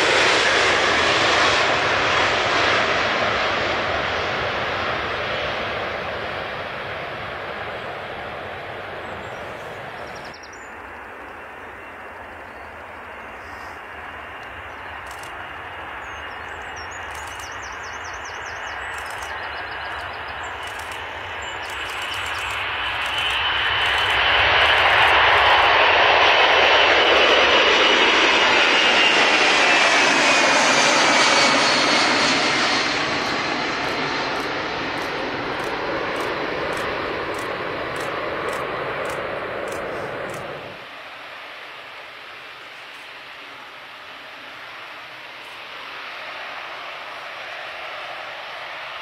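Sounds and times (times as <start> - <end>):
high jet whine: 0.0 - 49.0
jet engines roaring: 0.0 - 49.0.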